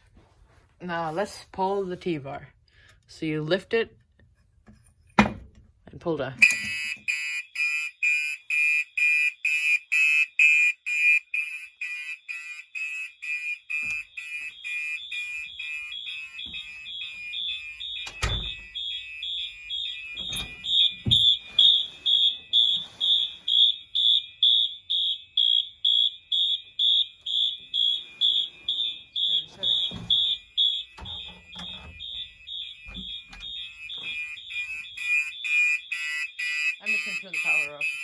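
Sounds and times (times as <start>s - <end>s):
fire alarm horns pulsing: 6.4s - 38.0s
higher-pitched alarm horn: 6.4s - 38.0s.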